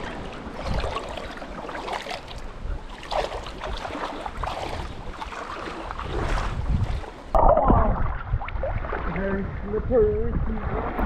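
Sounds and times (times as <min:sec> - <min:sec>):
creek water splashing: 0:00.0 - 0:11.0
wind rumbling on microphone: 0:00.0 - 0:11.0.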